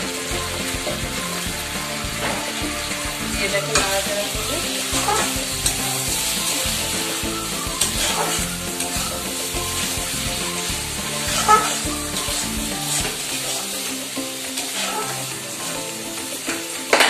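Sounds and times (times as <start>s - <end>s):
curry sizzling in a pan: 0.0s - 17.0s
spatula scraping a pan: 0.2s - 17.0s.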